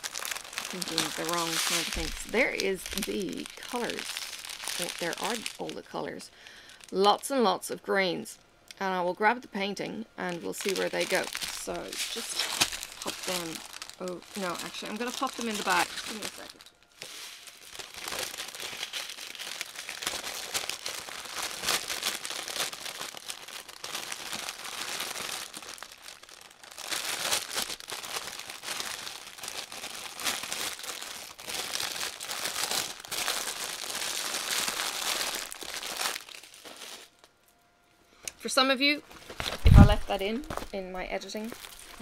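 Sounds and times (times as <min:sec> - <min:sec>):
plastic bag crinkling: 0:00.0 - 0:07.4, 0:10.2 - 0:37.3, 0:39.0 - 0:42.0.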